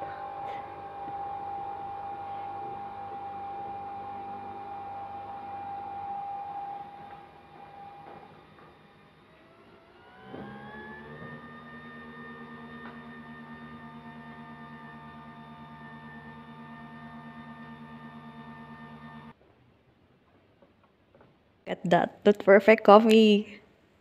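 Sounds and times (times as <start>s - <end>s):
small electric motor whining: 0.0s - 19.4s.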